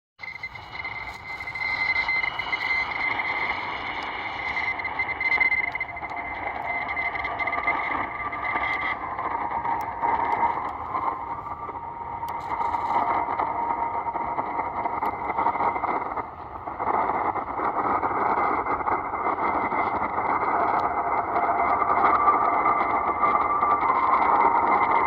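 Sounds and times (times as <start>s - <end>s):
faint radio signal: 0.2s - 25.0s
radio static and hiss: 0.2s - 25.0s.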